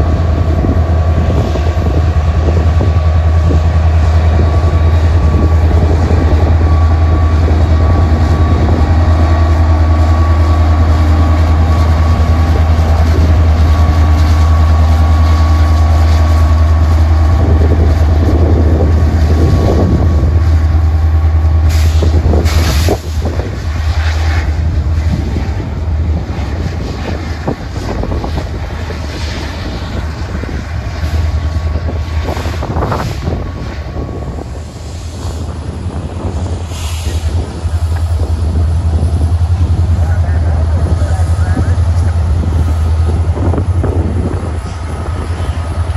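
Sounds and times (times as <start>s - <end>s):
diesel locomotive engine rumble: 0.0s - 45.9s
train cars clanking: 0.0s - 45.9s
train wheels on rails: 0.0s - 45.9s.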